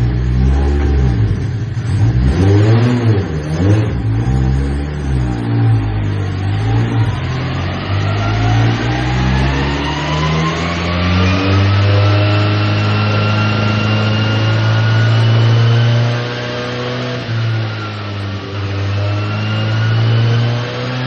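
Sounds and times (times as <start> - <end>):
race car engine under load: 0.0 - 21.0
rising whine: 2.6 - 21.0.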